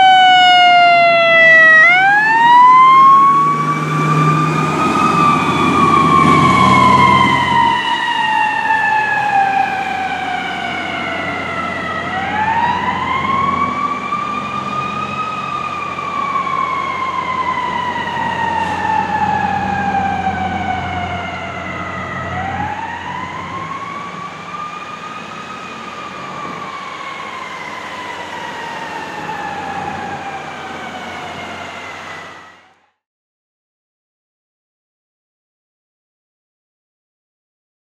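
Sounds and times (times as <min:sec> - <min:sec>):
fire engine siren wailing: 0:00.0 - 0:33.0.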